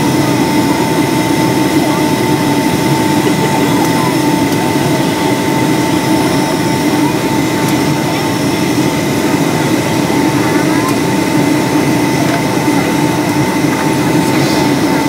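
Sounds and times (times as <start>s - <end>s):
airliner cabin jet engine rush: 0.0s - 15.0s.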